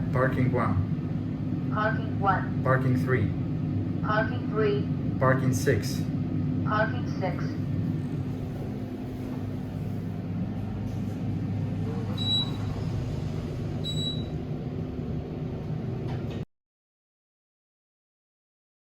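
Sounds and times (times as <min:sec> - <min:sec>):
elevator car humming: 0:00.0 - 0:16.4.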